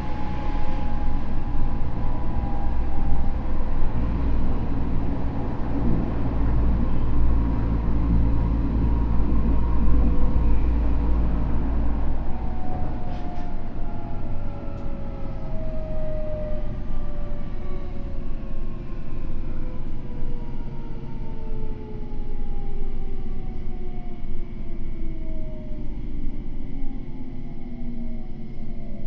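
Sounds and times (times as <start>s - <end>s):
rumble of wheels on rail: 0.0s - 29.0s.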